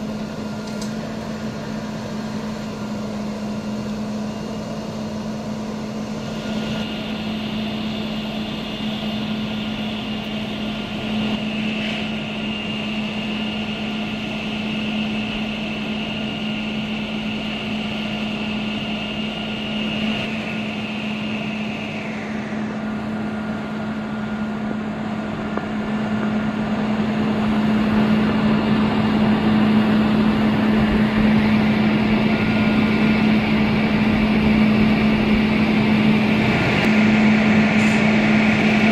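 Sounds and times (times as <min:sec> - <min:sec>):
diesel truck engine running: 0:00.0 - 0:38.9
high whine gliding down: 0:00.0 - 0:38.9.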